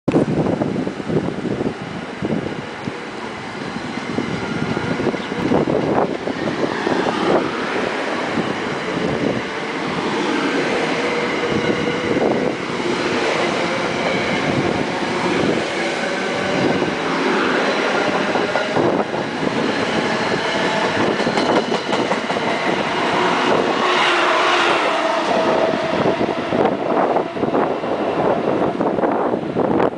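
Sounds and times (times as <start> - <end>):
steel wheels rushing on rail: 0.2 - 29.9.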